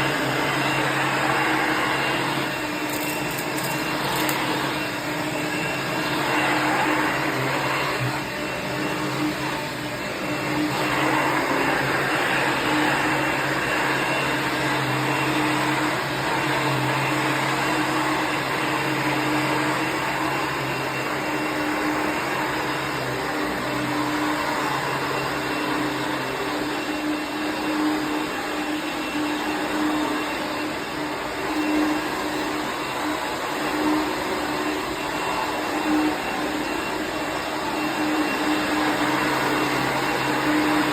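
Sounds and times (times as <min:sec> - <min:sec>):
upright vacuum cleaner running: 0:00.0 - 0:40.9.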